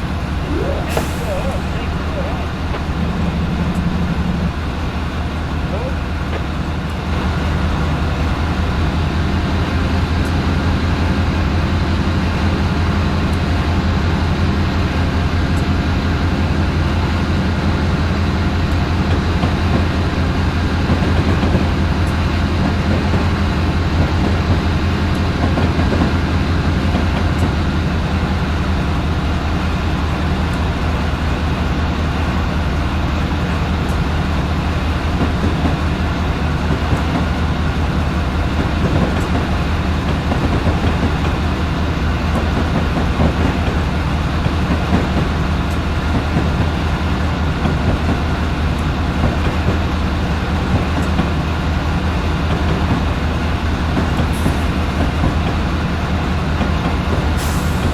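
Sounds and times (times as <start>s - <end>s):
train rumbling: 0.0s - 57.9s.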